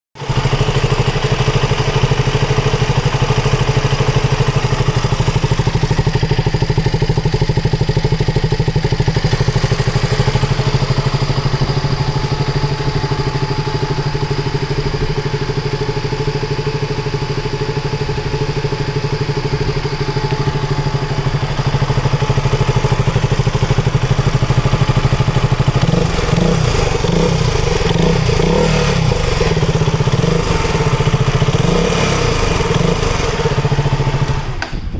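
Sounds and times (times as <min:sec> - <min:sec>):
motorcycle engine idling: 0:00.2 - 0:34.9.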